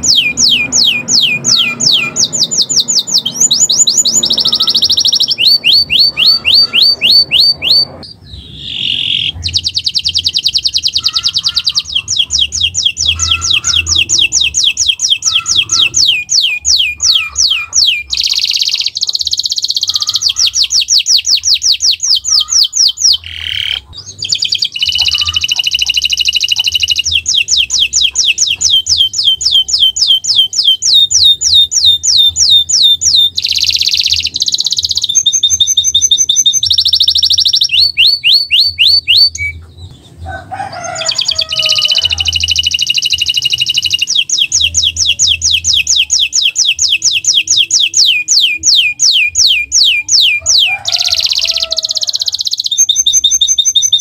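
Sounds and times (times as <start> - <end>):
canary singing fast trills: 0.0 - 54.0.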